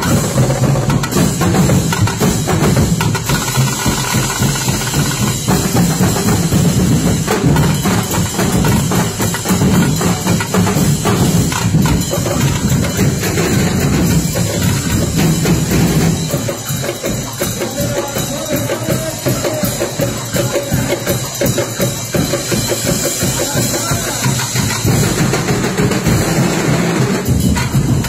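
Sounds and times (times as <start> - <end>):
drum and percussion ensemble: 0.0 - 28.0.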